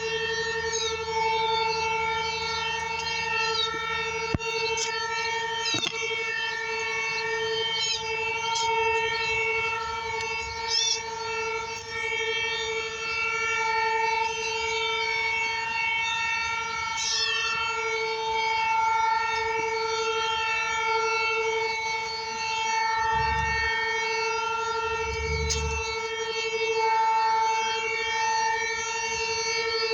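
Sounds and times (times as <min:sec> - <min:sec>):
warning siren steady tone: 0:00.0 - 0:29.9.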